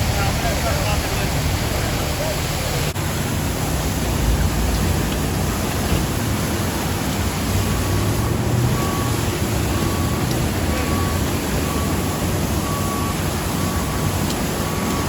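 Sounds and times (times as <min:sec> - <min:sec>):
low engine rumble: 0:00.0 - 0:15.0
steady rushing noise: 0:00.0 - 0:15.0.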